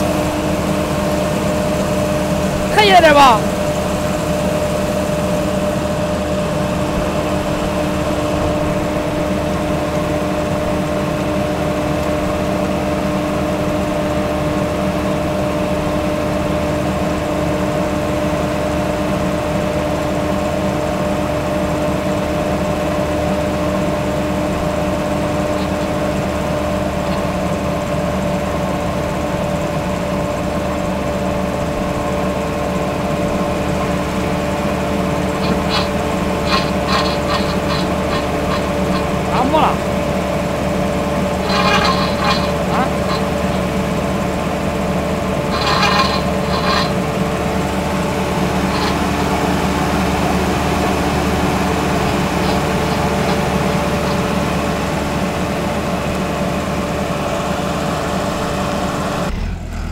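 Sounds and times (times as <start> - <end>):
loader engine and hydraulics: 0.0 - 59.9.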